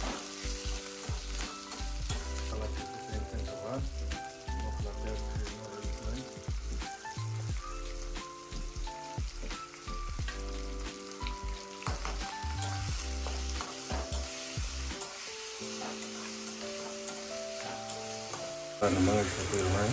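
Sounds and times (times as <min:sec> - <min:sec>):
background music of held notes: 0:00.0 - 0:19.9
meat sizzling in a pan: 0:00.0 - 0:19.9.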